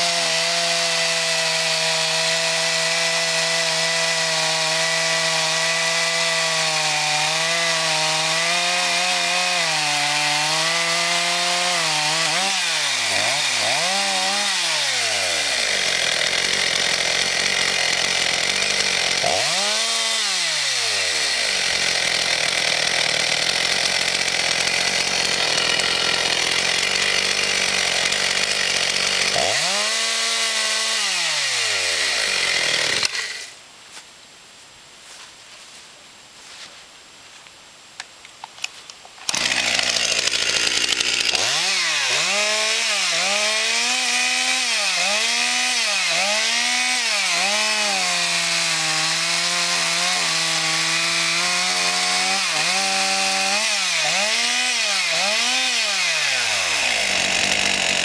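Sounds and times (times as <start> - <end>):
chainsaw cutting log: 0.0 - 33.6, 39.2 - 58.0.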